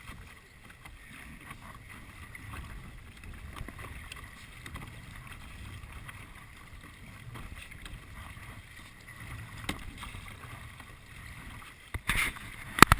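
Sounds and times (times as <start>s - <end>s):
paddle dips and drips: 0.0s - 12.9s.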